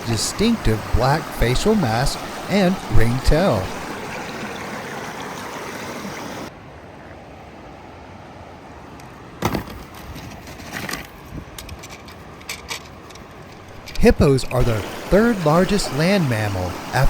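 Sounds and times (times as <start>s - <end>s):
rushing outdoor background noise: 0.0s - 17.0s.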